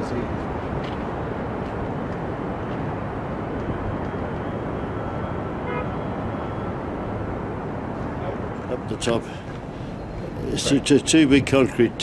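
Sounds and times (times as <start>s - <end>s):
city traffic rumble: 0.0s - 12.0s
wind: 0.0s - 12.0s.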